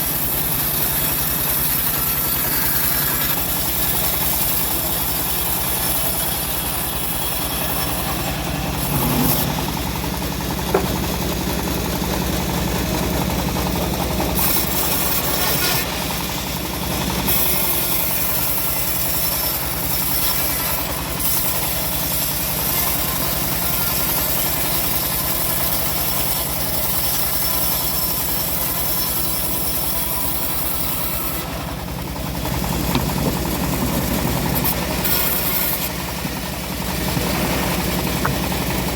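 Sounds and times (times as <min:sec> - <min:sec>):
engine-driven bandsaw running: 0:00.0 - 0:38.9.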